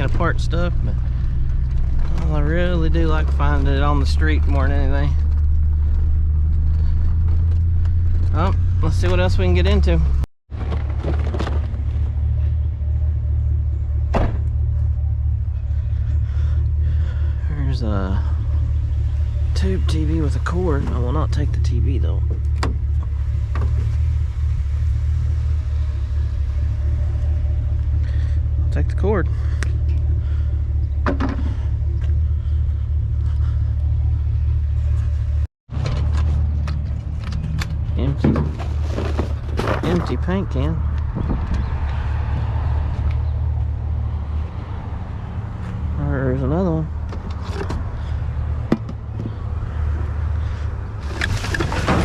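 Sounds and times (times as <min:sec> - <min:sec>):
truck engine and road rumble: 0:00.0 - 0:52.0.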